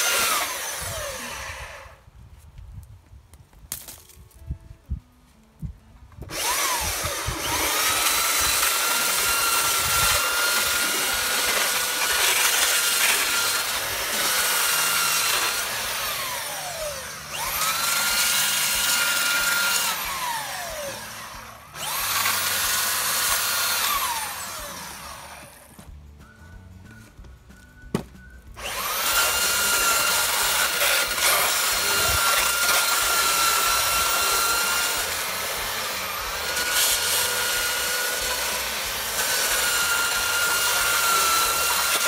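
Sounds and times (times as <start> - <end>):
belt sander on wood: 0.0 - 2.0, 6.3 - 25.8, 28.6 - 42.0.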